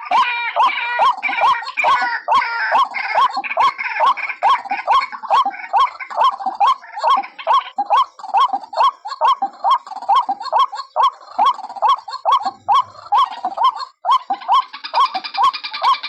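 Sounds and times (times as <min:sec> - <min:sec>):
waterhen calls: 0:00.0 - 0:16.0.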